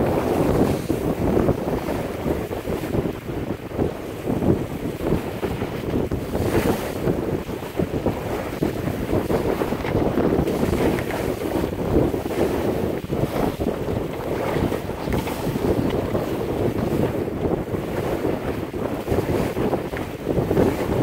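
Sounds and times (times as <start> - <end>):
water slapping along hull: 0.0 - 21.0
wind buffeting microphone: 0.0 - 21.0.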